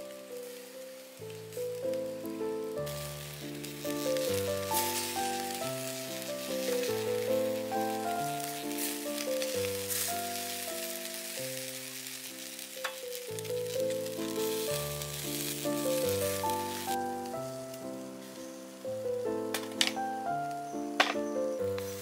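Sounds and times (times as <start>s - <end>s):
chicken wings sizzling on grill: 0.0s - 22.0s
instrumental background music: 0.0s - 22.0s.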